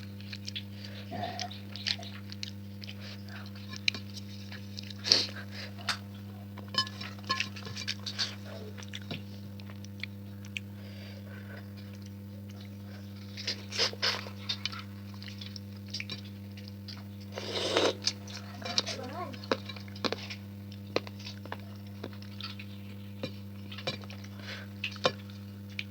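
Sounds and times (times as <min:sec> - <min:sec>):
chewing food: 0:00.0 - 0:25.9
steady low hum: 0:00.0 - 0:25.9.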